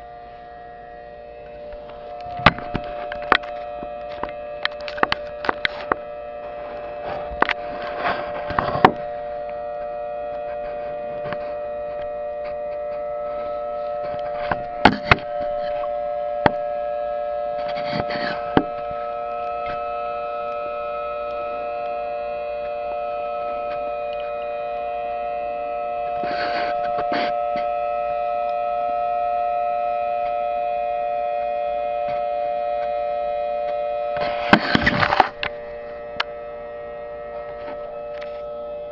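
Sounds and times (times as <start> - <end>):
siren through laptop speakers: 0.0 - 38.9.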